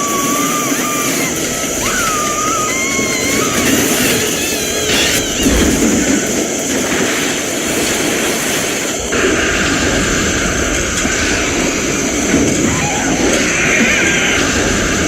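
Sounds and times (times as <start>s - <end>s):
high hiss: 0.0s - 15.0s
loud rushing rumble: 1.3s - 15.0s.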